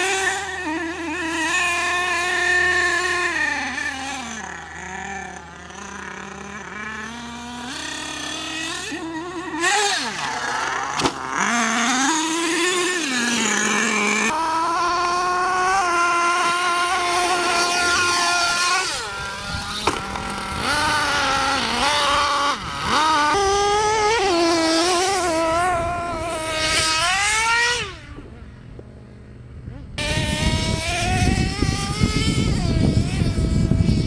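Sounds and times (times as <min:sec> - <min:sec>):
small two-stroke engine revving: 0:00.0 - 0:28.8, 0:29.6 - 0:34.0.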